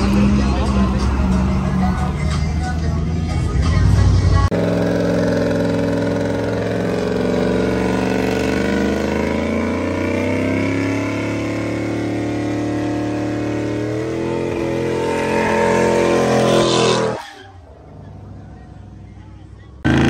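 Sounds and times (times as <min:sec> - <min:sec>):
truck engine revving high: 0:00.0 - 0:18.6, 0:19.8 - 0:20.0.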